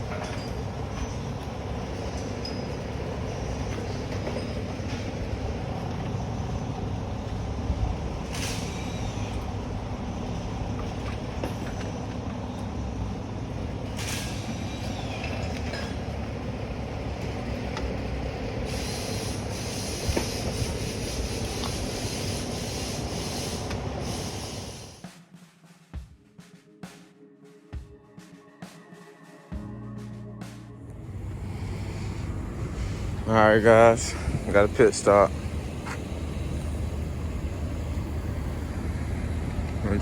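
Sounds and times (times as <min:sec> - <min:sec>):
vehicle road noise rumble and rattle: 0:00.0 - 0:24.2, 0:30.8 - 0:40.0.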